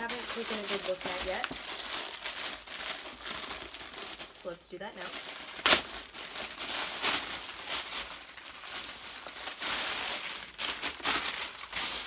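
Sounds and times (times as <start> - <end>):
paper bag crinkling: 0.0 - 12.0.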